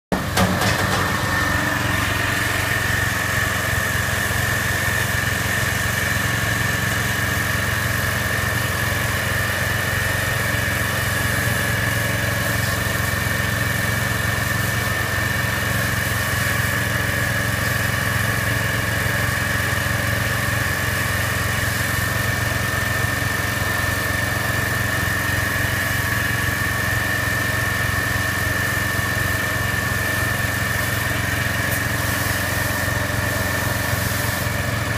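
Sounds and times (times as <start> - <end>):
pressure washer engine: 0.0 - 34.9.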